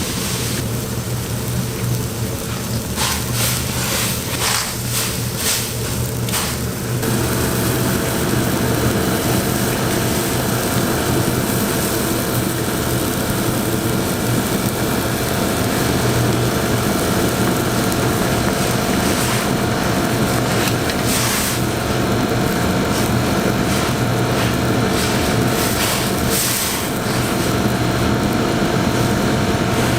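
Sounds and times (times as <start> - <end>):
food sizzling: 0.0 - 29.9
gas wok burner roaring: 0.0 - 29.9.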